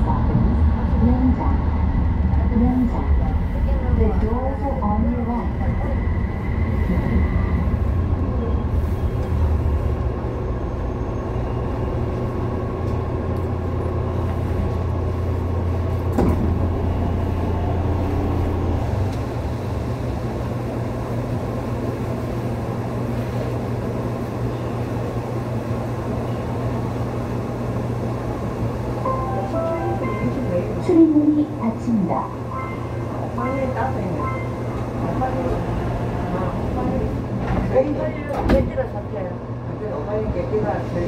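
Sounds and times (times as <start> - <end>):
train running in tunnel: 0.0 - 41.0.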